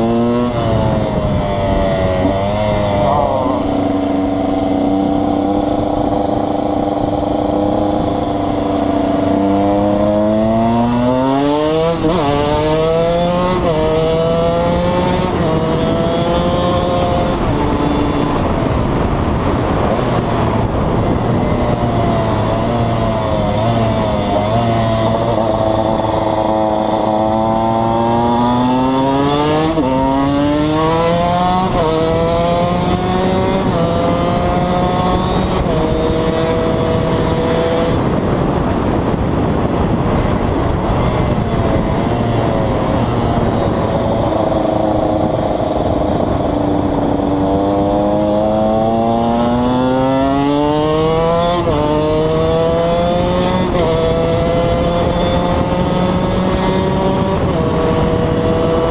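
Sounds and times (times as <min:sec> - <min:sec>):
two-stroke engine accelerating: 0:00.0 - 0:58.9.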